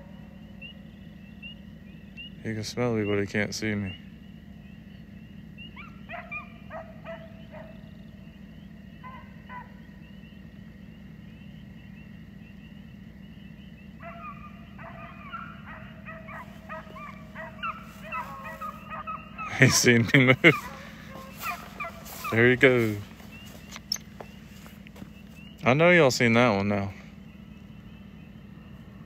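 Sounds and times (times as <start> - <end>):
distant hounds bawling: 0.0 - 29.0
steady low hum: 0.0 - 29.0.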